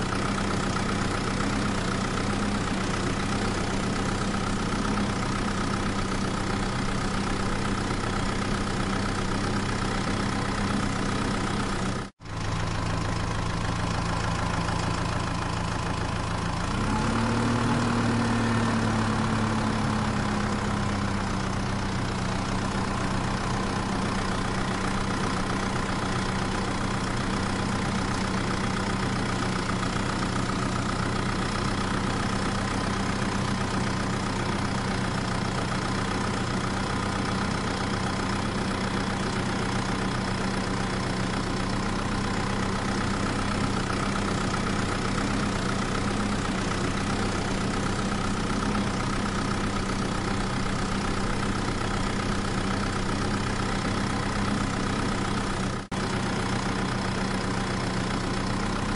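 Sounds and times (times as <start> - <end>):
tractor engine idling: 0.0 - 58.9.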